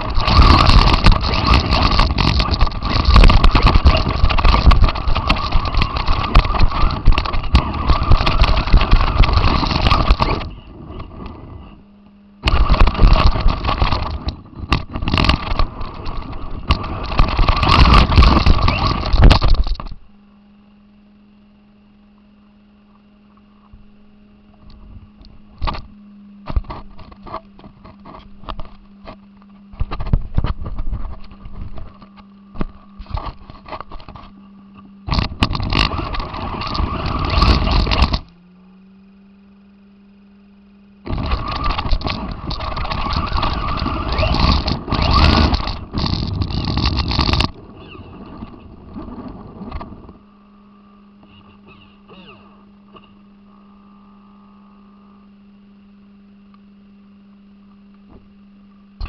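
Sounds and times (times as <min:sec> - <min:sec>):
crackles: 0:00.0 - 0:20.6, 0:24.5 - 0:38.5, 0:41.0 - 0:59.0
rc car motor driving: 0:00.0 - 0:21.4, 0:22.1 - 0:56.7
electrical hum: 0:00.0 - 0:59.0.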